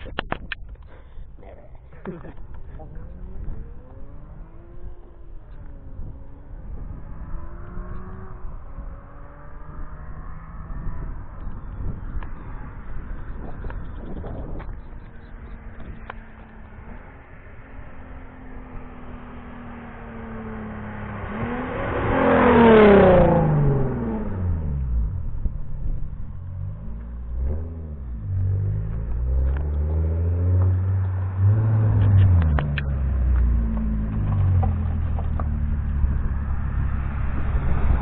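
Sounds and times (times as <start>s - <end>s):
low engine rumble: 0.0s - 38.0s
car engine accelerating past: 2.3s - 38.0s.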